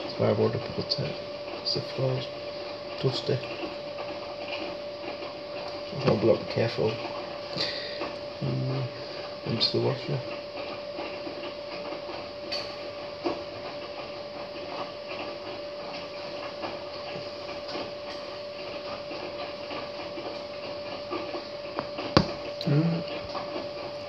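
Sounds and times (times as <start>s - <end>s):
washing machine tumbling laundry: 0.0s - 24.0s.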